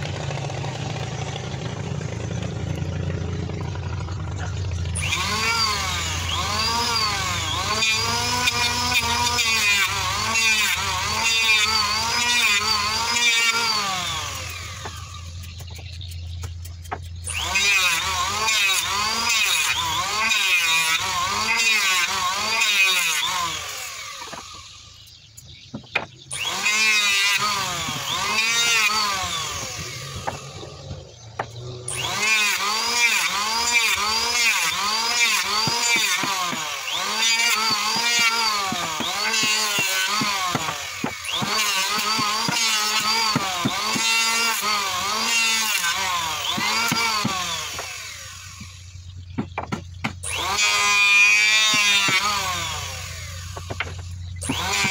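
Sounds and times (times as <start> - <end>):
electric planer shaving wood: 0.0 - 54.9.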